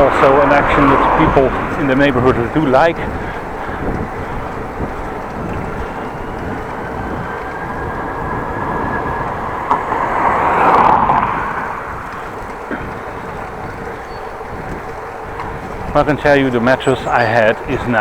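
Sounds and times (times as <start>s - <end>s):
vehicle passing close by: 0.0s - 17.9s
outdoor road noise: 0.0s - 18.0s.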